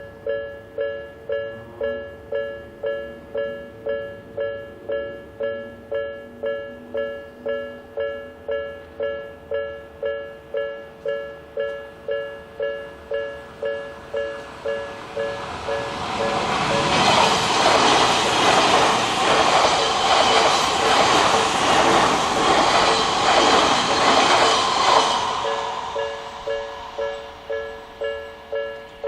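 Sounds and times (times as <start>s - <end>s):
level-crossing warning bell: 0.0s - 21.6s, 22.2s - 29.0s.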